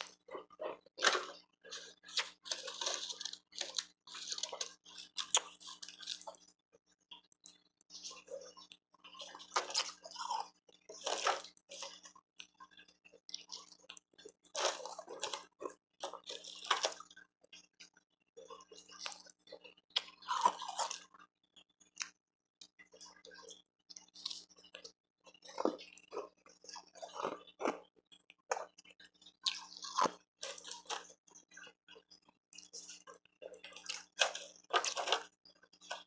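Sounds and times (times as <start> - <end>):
chewing and crunching ice: 0.0 - 36.0.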